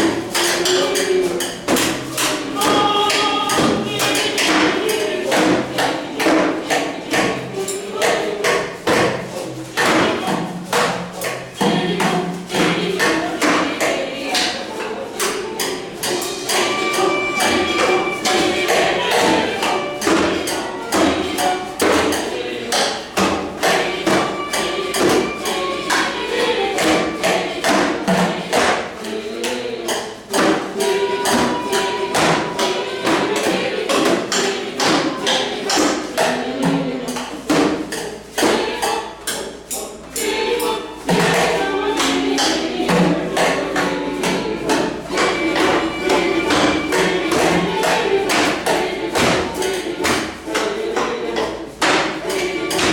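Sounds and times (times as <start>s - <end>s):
percussion beat on objects: 0.0s - 52.9s.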